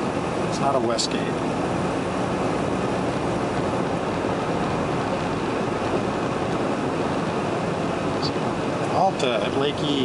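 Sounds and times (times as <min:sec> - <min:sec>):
truck engine running steadily: 0:00.0 - 0:10.0
tyres on the road: 0:00.0 - 0:10.0.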